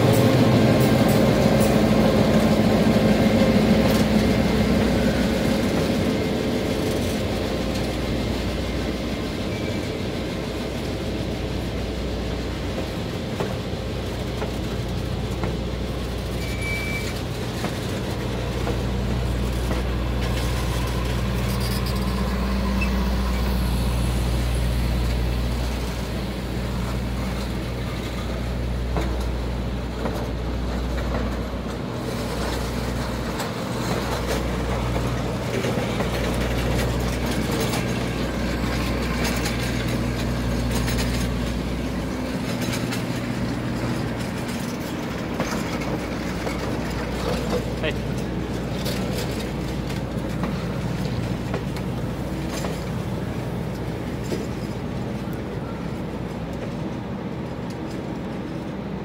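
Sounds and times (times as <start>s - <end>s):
diesel locomotive engine: 0.0s - 59.0s
train wheels rumbling on rails: 0.0s - 59.0s.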